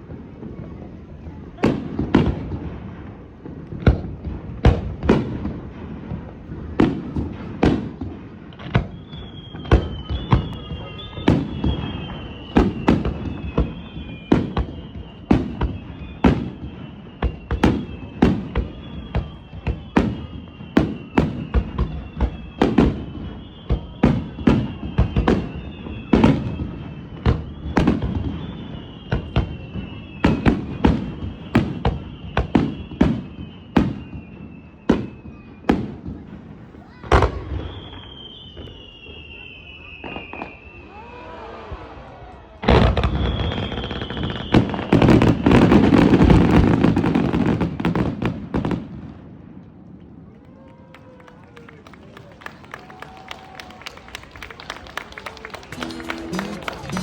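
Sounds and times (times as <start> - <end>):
fireworks bursting with booms: 0.0 - 41.0, 42.5 - 49.6, 55.6 - 57.0.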